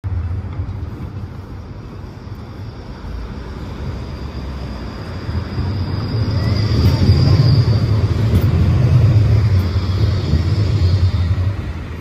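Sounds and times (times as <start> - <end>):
tram rumbling on rails: 0.0 - 12.0.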